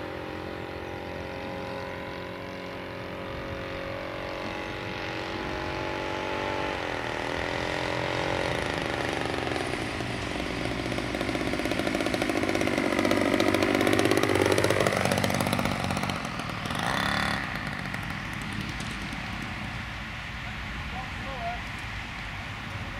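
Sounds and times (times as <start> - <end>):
model plane engine buzzing: 0.0 - 21.2.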